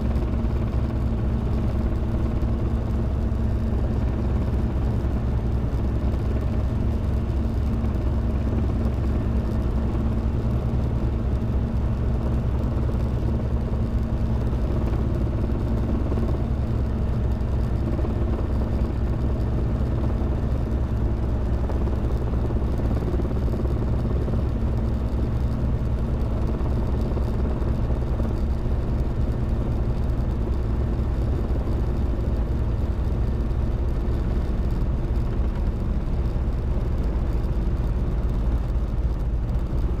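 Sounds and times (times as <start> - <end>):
helicopter engine and rotors droning: 0.0 - 40.0.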